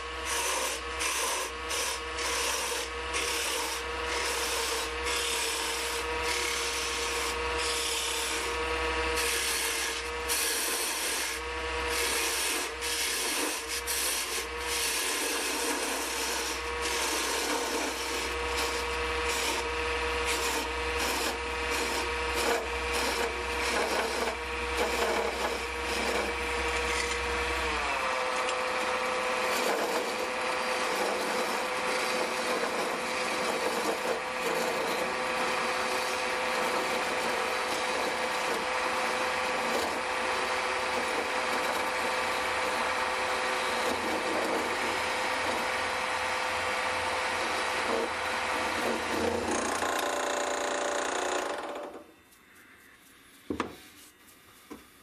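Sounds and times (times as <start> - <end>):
chisel scraping spinning wood: 0.0 - 52.0
lathe motor whine: 0.0 - 54.0.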